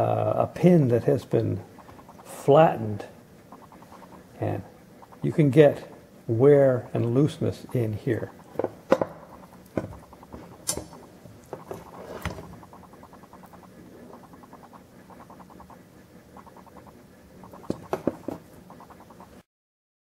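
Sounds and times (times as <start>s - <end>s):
fast scratchy ticking: 0.0s - 19.5s.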